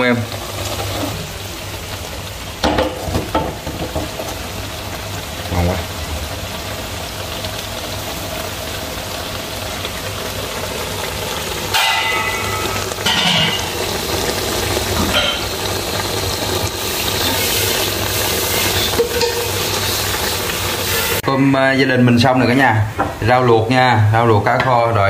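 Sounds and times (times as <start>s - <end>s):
sauce bubbling and sizzling: 0.0s - 25.0s.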